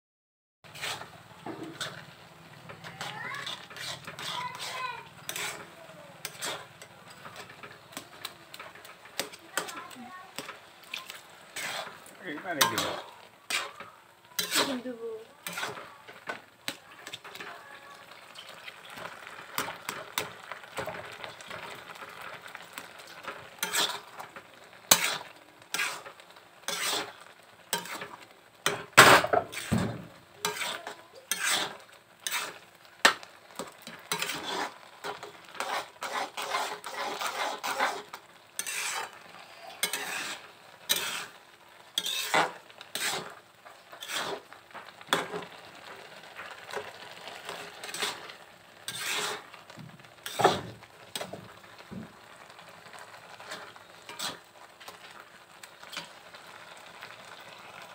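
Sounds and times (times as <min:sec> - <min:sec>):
spatula scraping metal pan: 0:00.6 - 0:49.6, 0:50.2 - 0:52.2, 0:52.9 - 0:55.2, 0:55.8 - 0:56.4
frying sizzle: 0:00.6 - 0:57.9.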